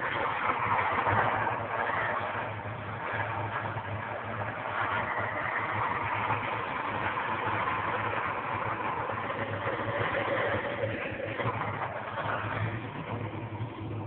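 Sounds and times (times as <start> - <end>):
low hum: 0.0 - 14.0
steamer rumbling hiss: 0.0 - 14.0.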